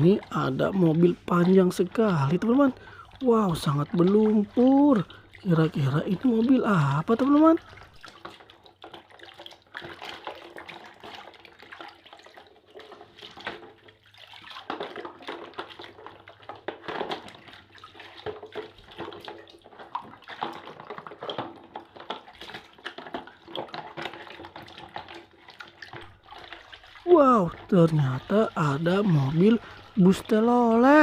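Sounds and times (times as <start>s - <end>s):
water sloshing and splashing: 0.0s - 31.0s.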